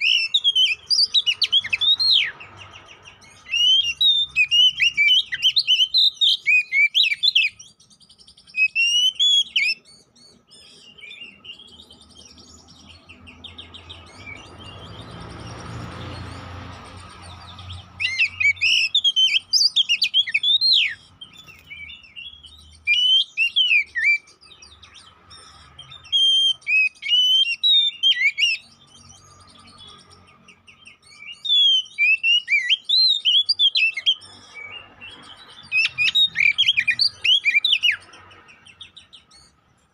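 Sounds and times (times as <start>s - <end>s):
bird chirping and whistling: 0.0s - 39.5s.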